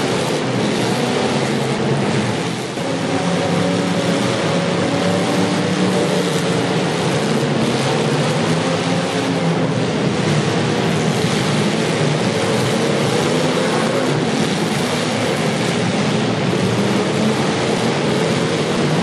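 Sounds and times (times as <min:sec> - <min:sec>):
car engines running together: 0:00.0 - 0:19.0.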